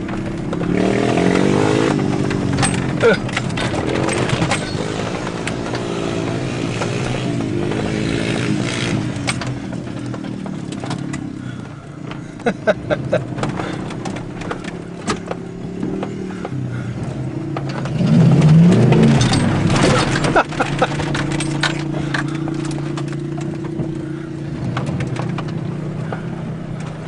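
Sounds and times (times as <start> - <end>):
off-road vehicle engine revving: 0.0 - 27.0
sharp knocks and rattles: 0.0 - 27.0.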